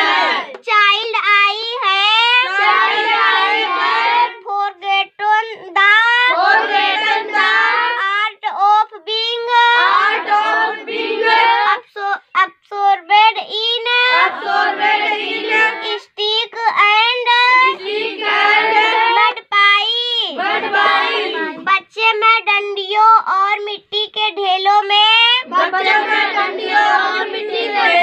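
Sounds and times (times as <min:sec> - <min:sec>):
girl reciting a poem: 0:00.0 - 0:28.0.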